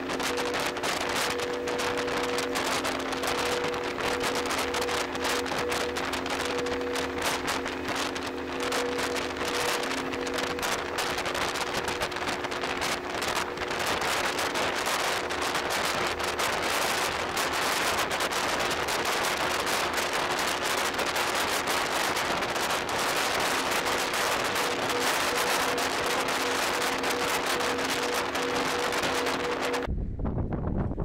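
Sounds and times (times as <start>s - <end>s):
sea: 0.0s - 30.0s
faint steady hum: 0.0s - 31.0s
wind rushing: 0.0s - 31.0s.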